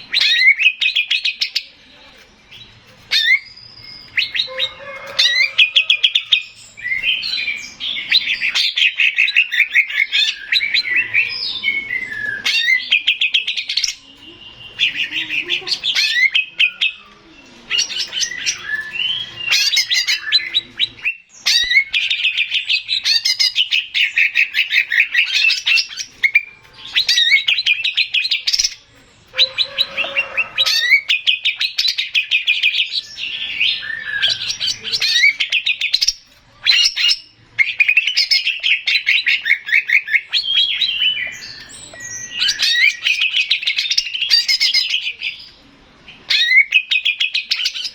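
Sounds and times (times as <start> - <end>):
bird singing rapid high notes: 2.4 - 45.5.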